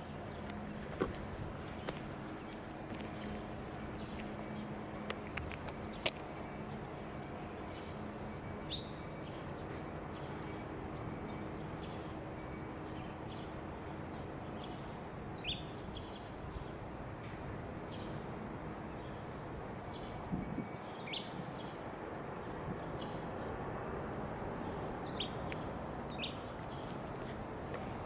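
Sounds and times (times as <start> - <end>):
small birds chirping: 0.0 - 16.8, 18.8 - 23.6, 24.5 - 28.0
outdoor background hum: 0.0 - 28.0.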